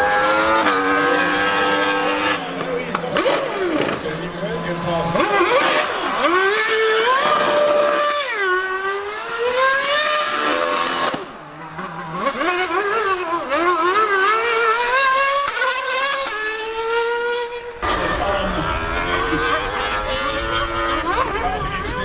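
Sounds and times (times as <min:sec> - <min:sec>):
racing engine revving through gears: 0:00.0 - 0:22.0.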